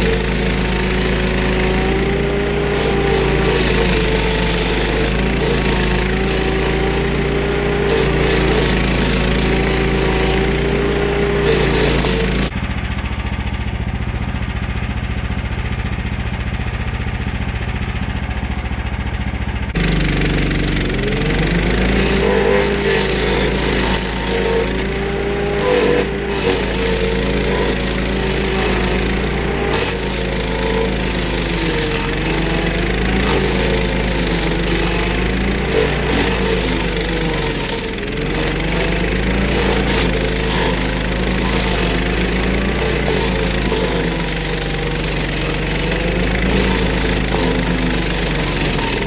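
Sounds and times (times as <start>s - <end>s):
stump grinder grinding wood: 0.0s - 49.0s.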